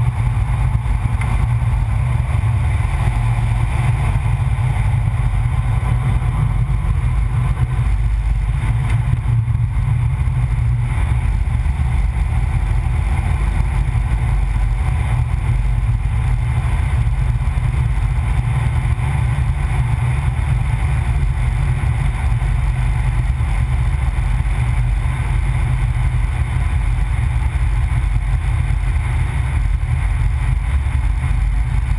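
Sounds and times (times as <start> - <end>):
car engine and road rumble: 0.0 - 31.9.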